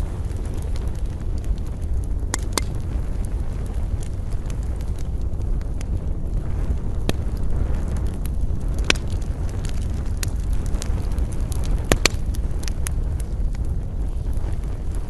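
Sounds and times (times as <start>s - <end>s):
low rumble of wind: 0.0s - 15.0s
wood campfire crackling: 0.0s - 15.0s.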